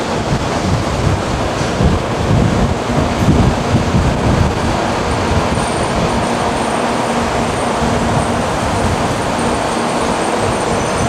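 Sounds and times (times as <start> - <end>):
train rushing past: 0.0 - 11.0.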